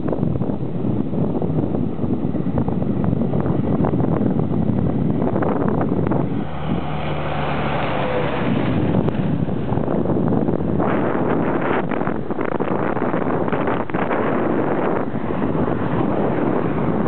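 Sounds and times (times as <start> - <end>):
vehicle engine hum: 0.0 - 17.0
wind buffeting microphone: 0.0 - 17.0.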